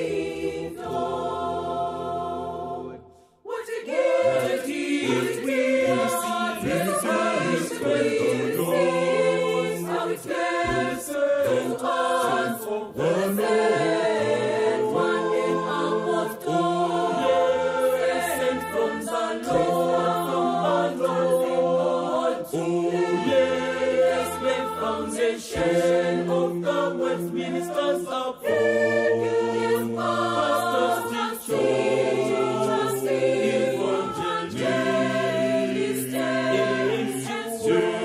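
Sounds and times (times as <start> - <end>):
gospel choir singing: 0.0 - 38.0.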